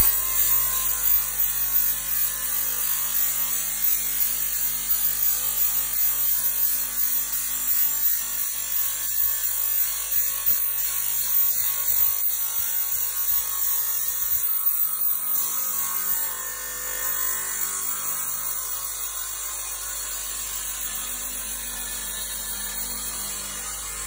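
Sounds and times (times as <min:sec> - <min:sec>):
saw cutting through steel: 0:00.0 - 0:24.0.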